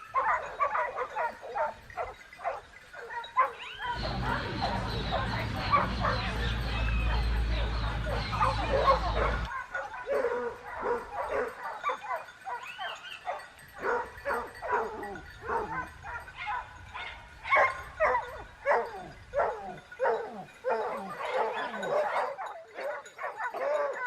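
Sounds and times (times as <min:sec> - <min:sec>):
dog barking and yipping: 0:00.0 - 0:24.0.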